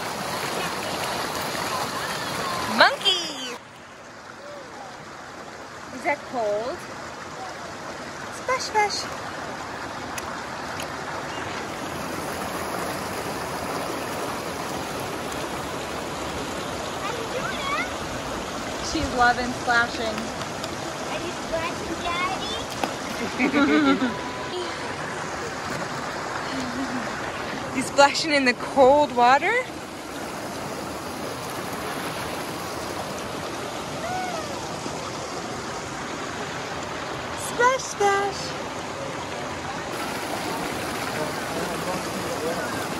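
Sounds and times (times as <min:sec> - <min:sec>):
water rushing over rocks: 0:00.0 - 0:42.9.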